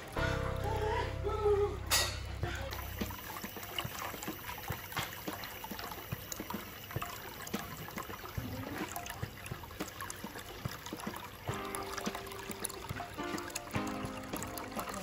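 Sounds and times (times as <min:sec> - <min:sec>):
fountain water trickling: 0:00.0 - 0:15.0
small splashes and drips: 0:01.9 - 0:15.0.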